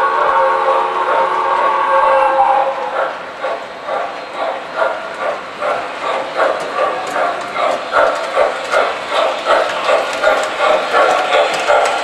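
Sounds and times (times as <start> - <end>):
toy steam locomotive chuffing: 0.0 - 12.0.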